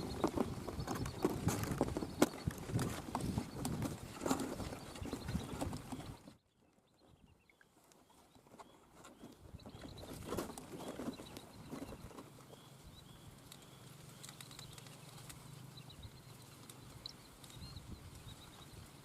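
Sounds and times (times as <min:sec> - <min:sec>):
flapping and rustling: 0:00.0 - 0:06.3, 0:08.4 - 0:12.7, 0:13.3 - 0:19.0.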